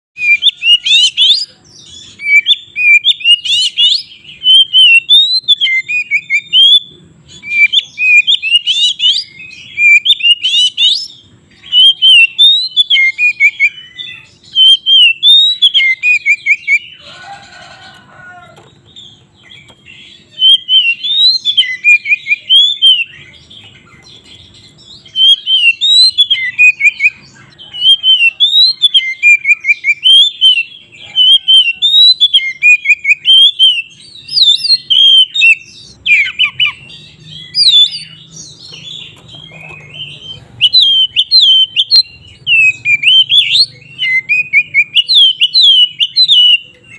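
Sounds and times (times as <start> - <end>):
bird singing whistled phrases: 0.2 - 17.1, 19.0 - 46.9.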